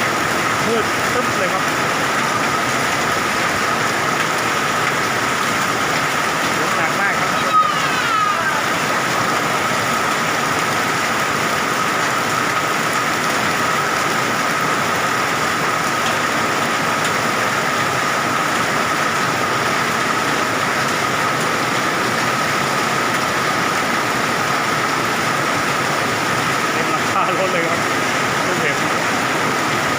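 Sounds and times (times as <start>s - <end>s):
heavy rain and hail: 0.0s - 29.9s.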